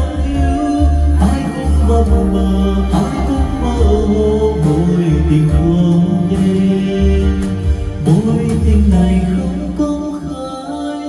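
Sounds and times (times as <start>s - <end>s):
man singing into a microphone: 0.0s - 11.0s
slow pop ballad backing track: 0.0s - 11.0s.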